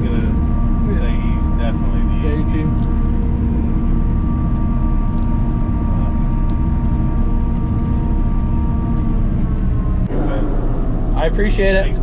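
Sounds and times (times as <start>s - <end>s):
forage harvester engine rumble: 0.0s - 12.0s
steady machine whine: 0.0s - 12.0s.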